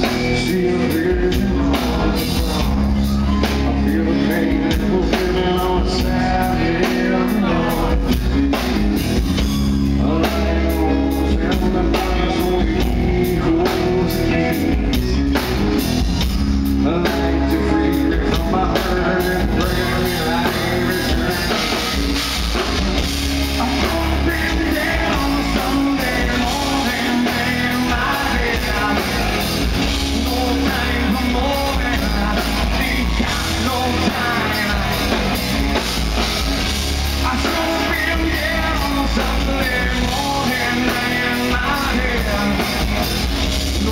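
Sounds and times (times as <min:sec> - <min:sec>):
person singing: 0:00.0 - 0:15.6, 0:16.6 - 0:36.0, 0:37.1 - 0:43.9
rock band playing: 0:00.0 - 0:43.9.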